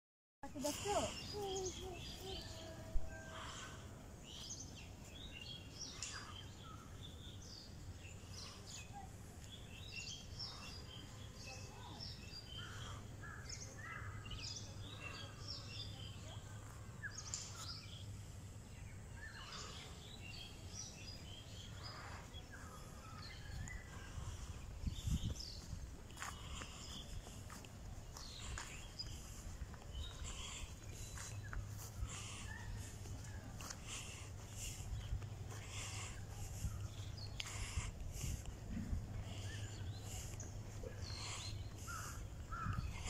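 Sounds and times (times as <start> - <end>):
small birds chirping: 0.4 - 43.0.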